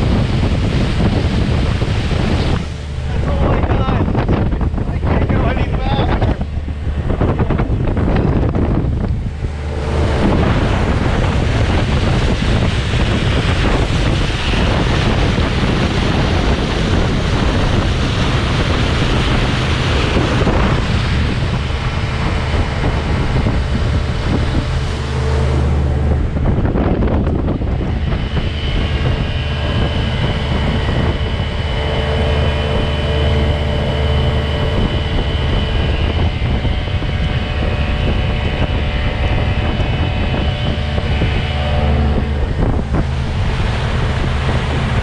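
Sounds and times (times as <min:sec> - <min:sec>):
outboard motor droning: 0:00.0 - 0:45.0
water rushing past hull: 0:00.0 - 0:45.0
wind buffeting microphone: 0:00.0 - 0:45.0.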